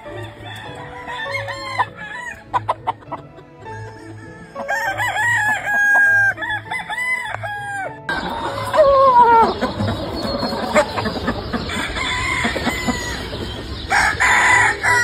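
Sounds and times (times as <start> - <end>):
background music with soft beat: 0.0 - 15.0
roosters crowing: 0.0 - 15.0.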